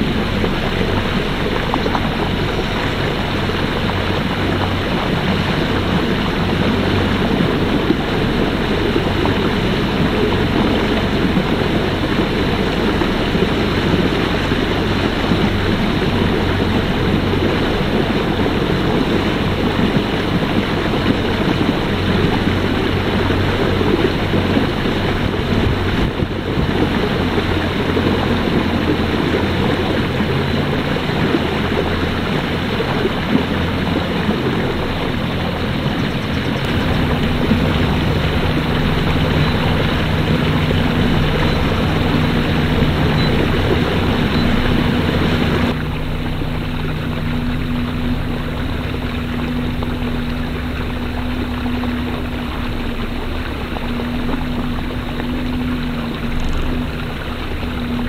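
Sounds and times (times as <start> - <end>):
boat motor hum: 0.0 - 58.0
water rushing along hull: 0.0 - 58.0
wind buffeting microphone: 0.0 - 58.0.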